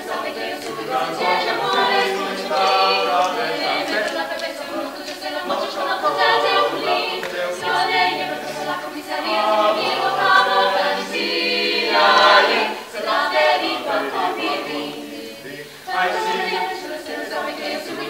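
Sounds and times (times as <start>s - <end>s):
choir singing a cappella: 0.0s - 18.0s.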